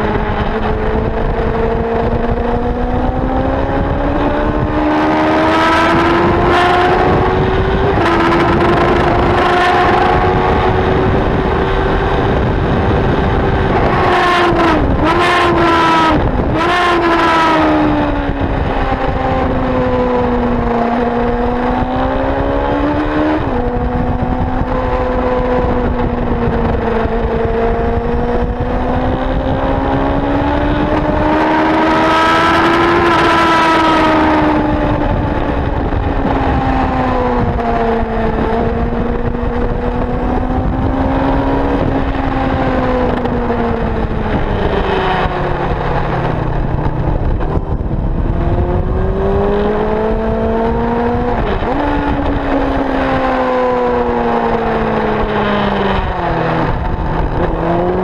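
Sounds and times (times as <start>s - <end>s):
motorcycle engine revving: 0.0s - 58.0s
wind rush over microphone: 0.0s - 58.0s.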